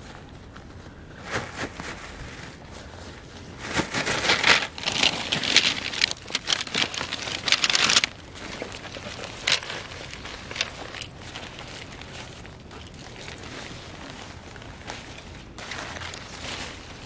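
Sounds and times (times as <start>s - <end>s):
tent fabric rustling and crinkling: 0.0s - 17.0s.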